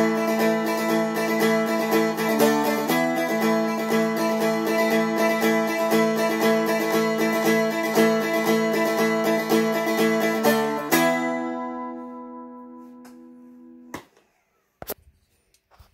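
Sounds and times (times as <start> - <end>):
stick dulcimer strummed: 0.0 - 13.8.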